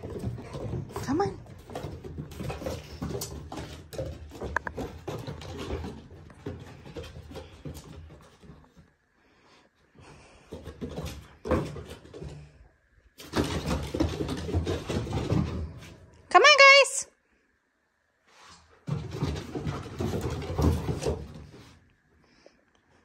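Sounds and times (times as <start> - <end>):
dogs scuffling: 0.0 - 9.0, 10.1 - 16.1, 18.3 - 21.9.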